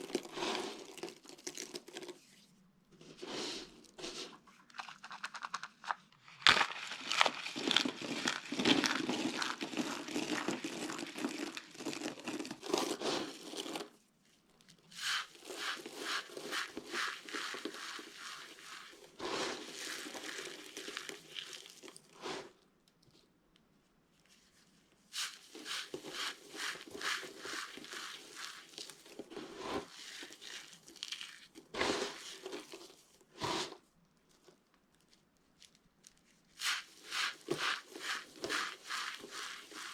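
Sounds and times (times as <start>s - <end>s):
dry soap crackling and crunching: 0.0s - 39.9s.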